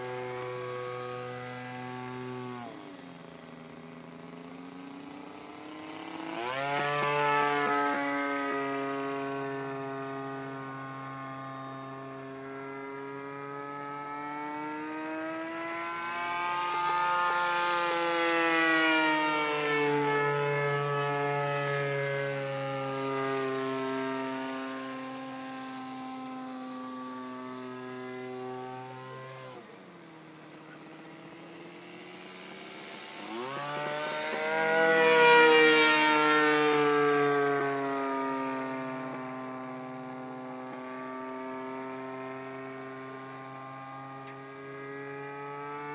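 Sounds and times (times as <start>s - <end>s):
model plane engine buzzing: 0.0s - 45.9s.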